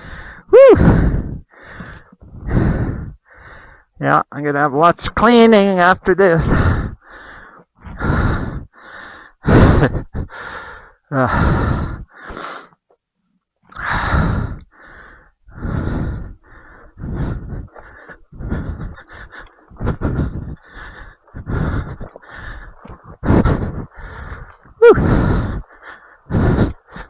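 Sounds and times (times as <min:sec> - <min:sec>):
heavy rapid breathing: 0:00.0 - 0:04.0, 0:06.2 - 0:12.8, 0:13.8 - 0:27.0.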